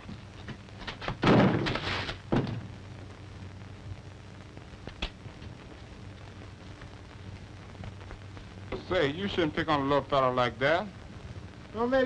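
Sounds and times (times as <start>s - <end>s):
old film soundtrack hiss: 0.0s - 12.0s.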